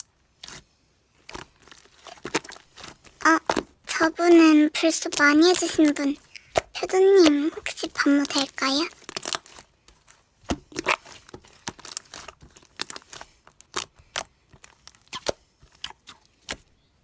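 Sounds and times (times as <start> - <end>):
slime squished by hand: 0.0 - 16.7.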